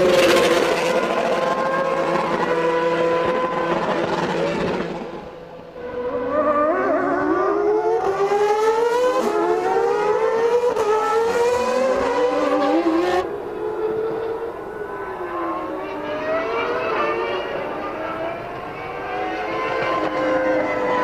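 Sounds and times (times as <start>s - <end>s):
racing car engines at high revs: 0.0s - 21.0s.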